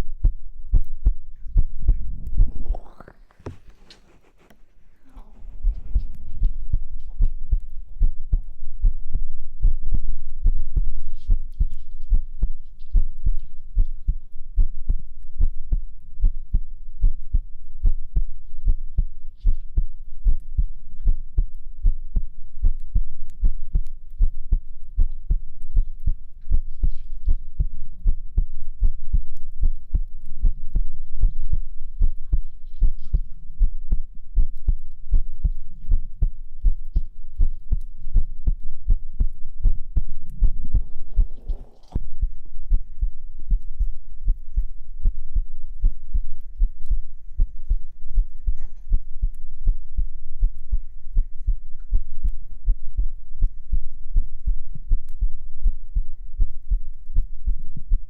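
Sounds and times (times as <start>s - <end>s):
heartbeat thumps: 0.0s - 4.2s, 5.3s - 58.0s.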